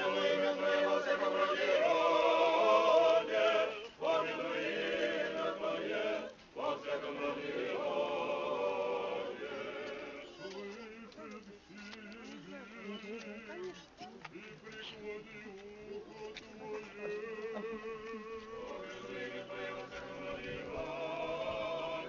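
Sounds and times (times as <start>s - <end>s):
choir singing a hymn: 0.0s - 13.4s, 14.4s - 22.0s.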